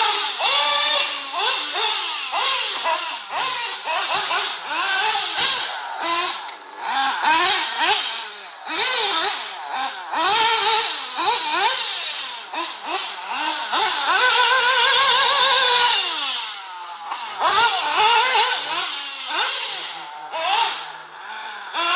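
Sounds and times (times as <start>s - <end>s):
rc car motors whining: 0.0s - 21.9s.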